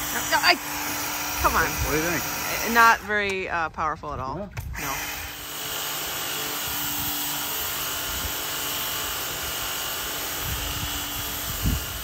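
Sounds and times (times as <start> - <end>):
pressure washer spray hissing: 0.0 - 3.2, 4.8 - 12.0
pump motor humming: 0.0 - 3.3, 4.8 - 12.0.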